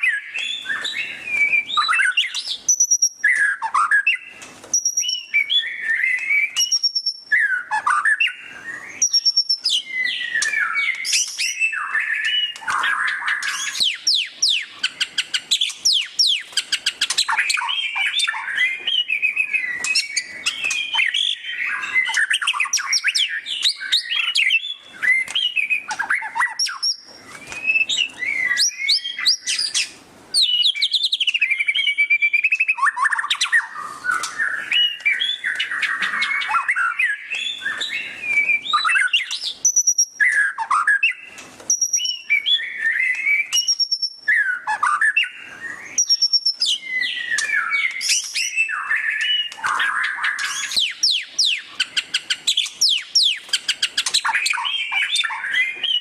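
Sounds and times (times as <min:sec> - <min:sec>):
bird singing loudly: 0:00.0 - 0:56.0.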